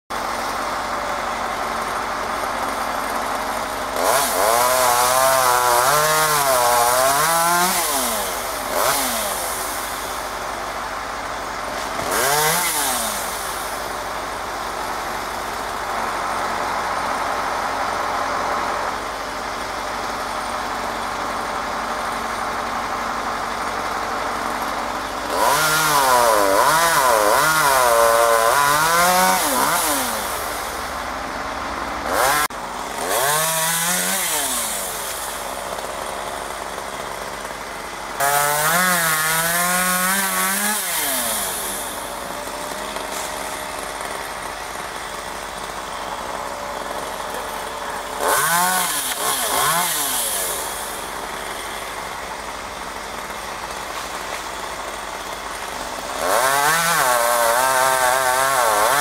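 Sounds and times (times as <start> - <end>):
chainsaw revving and cutting wood: 0.1 - 59.0.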